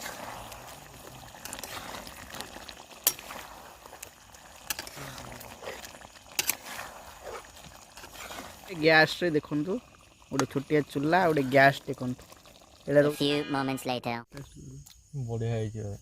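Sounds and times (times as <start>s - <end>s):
curry simmering and sizzling: 0.0s - 13.8s.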